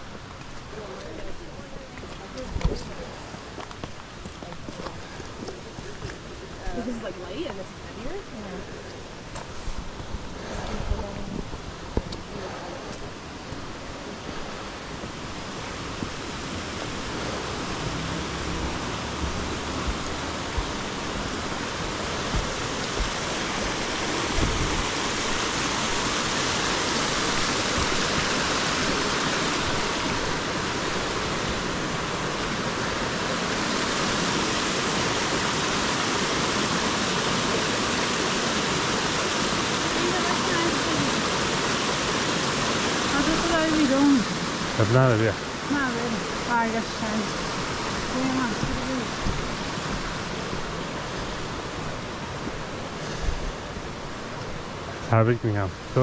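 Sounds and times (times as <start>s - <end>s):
creek rushing: 0.0s - 56.0s.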